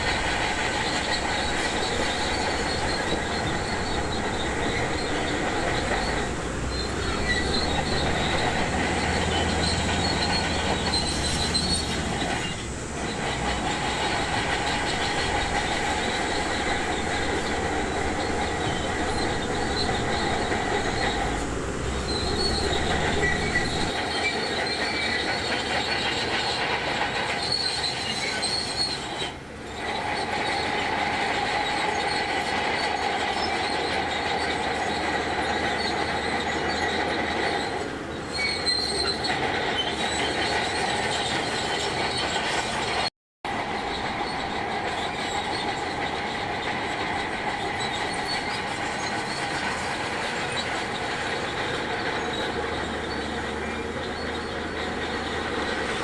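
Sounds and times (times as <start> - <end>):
bulldozer engine running: 0.0 - 56.0
steel tracks squealing: 0.0 - 56.0.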